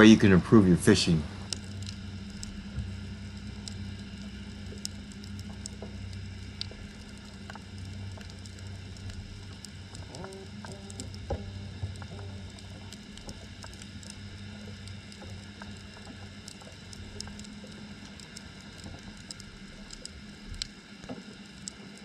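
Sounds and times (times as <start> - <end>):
low underwater hum: 0.0 - 22.0
underwater clicks and crackles: 1.4 - 22.0.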